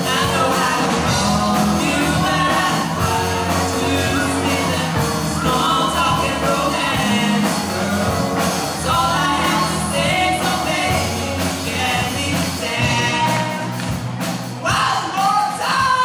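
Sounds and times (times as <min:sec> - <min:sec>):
person singing: 0:00.0 - 0:13.8
electric guitars: 0:00.0 - 0:14.6
drum kit: 0:00.0 - 0:16.0
keyboard: 0:00.0 - 0:16.0.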